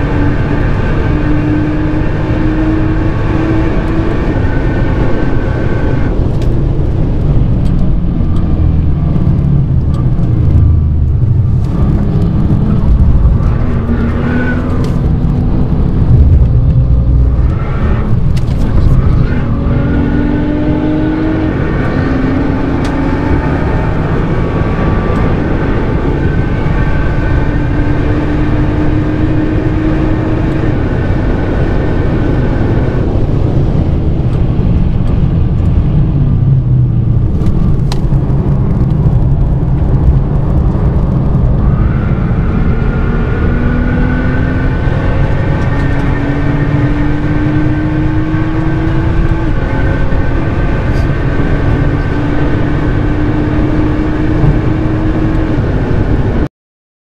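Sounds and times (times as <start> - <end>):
car engine accelerating: 0.0 - 56.5.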